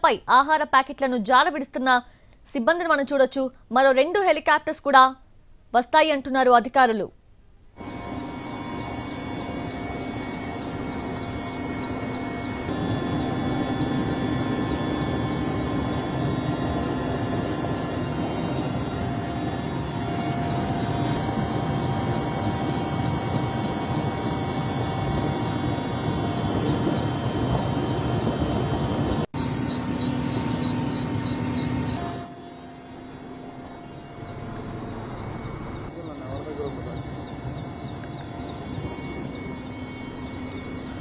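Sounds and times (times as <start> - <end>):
helicopter rotor rushing: 7.8 - 41.0
high engine whine: 7.8 - 41.0.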